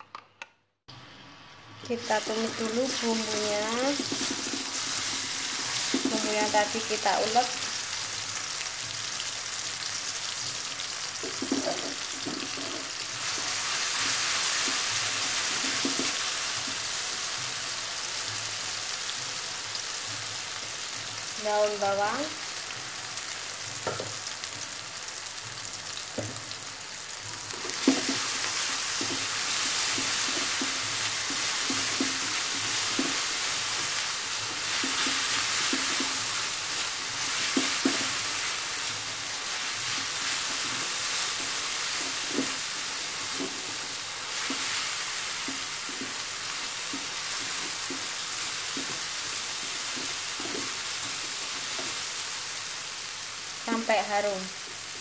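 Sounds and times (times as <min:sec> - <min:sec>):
food sizzling in oil: 0:00.9 - 0:55.0.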